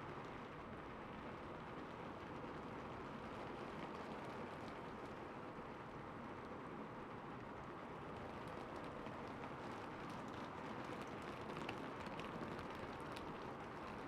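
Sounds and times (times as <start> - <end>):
rain on a rooftop: 0.0 - 14.0.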